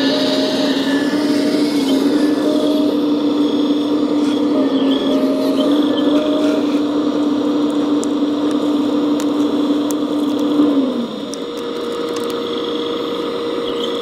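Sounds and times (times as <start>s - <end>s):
model excavator motor whine: 0.0s - 14.0s.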